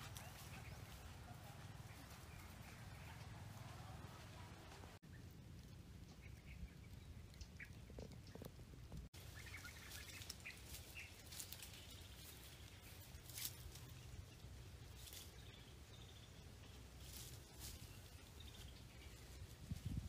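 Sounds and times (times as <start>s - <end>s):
rustling of grass and dry leaves: 0.0s - 20.0s.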